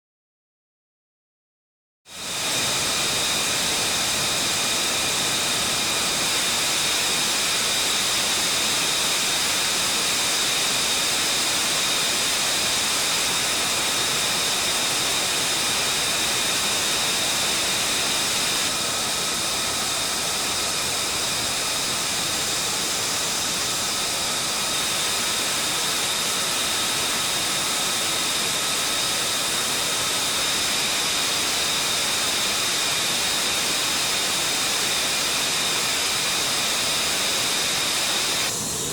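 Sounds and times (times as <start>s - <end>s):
fighter jet engine roaring: 2.2s - 38.9s
high engine whine: 2.2s - 38.9s.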